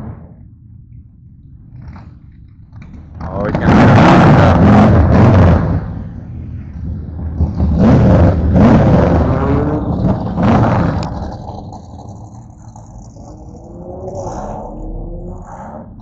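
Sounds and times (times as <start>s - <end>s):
car engine revving: 2.8s - 16.0s.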